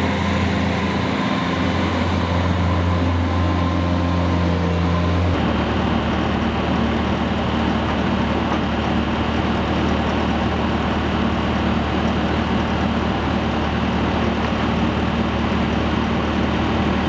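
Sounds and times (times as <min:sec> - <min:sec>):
engine droning steadily: 0:00.0 - 0:17.0.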